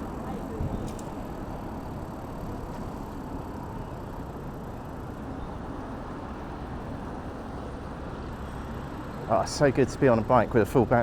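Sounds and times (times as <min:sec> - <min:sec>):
road and wind noise: 0:00.0 - 0:11.0
traffic: 0:00.0 - 0:11.0.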